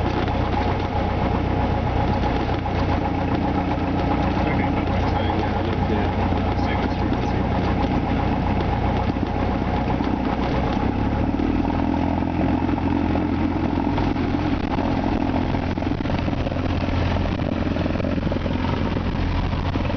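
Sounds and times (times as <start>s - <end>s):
propeller plane engine running: 0.0s - 19.9s.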